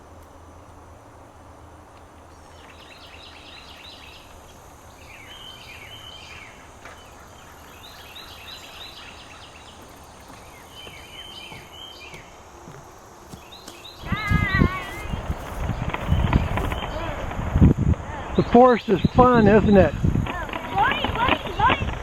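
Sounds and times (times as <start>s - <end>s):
songbird singing: 0.0s - 22.0s
high-pitched insect drone: 2.3s - 22.0s.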